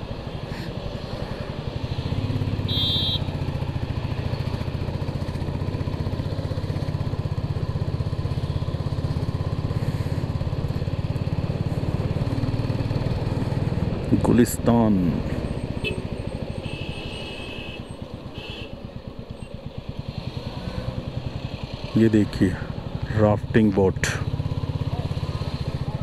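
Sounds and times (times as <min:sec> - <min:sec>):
motorcycle engine running: 0:01.5 - 0:26.0.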